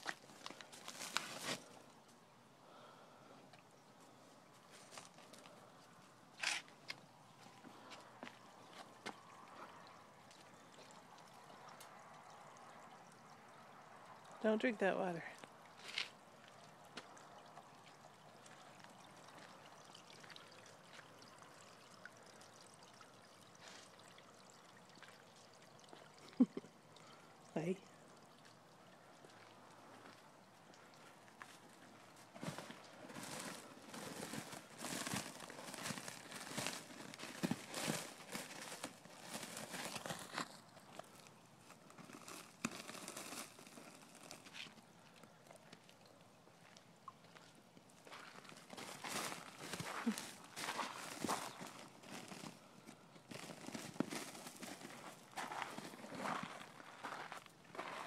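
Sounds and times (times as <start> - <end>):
small fountain trickling: 0.0 - 57.8.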